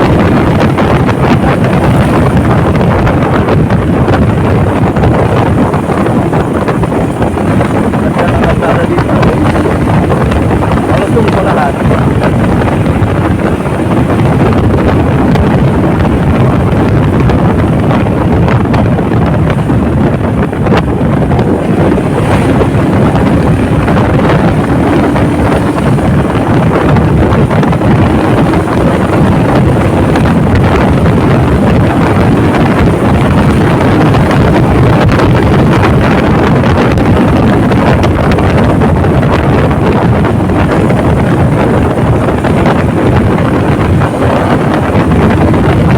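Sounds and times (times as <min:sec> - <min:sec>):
motorcycle engine: 0:00.0 - 0:45.9
road noise: 0:00.0 - 0:45.9
wind rush on microphone: 0:00.0 - 0:45.9.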